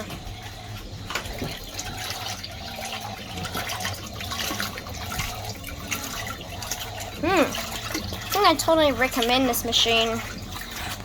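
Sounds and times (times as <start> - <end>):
water splashing in washing machine: 0.0 - 11.0.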